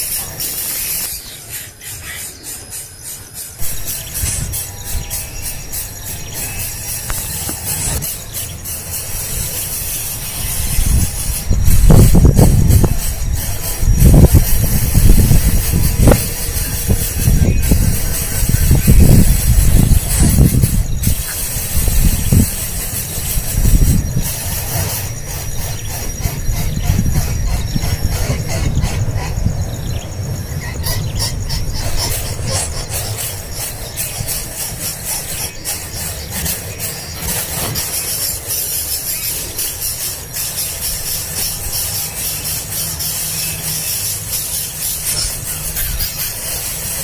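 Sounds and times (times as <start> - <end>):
young birds squealing: 0.0 - 47.0.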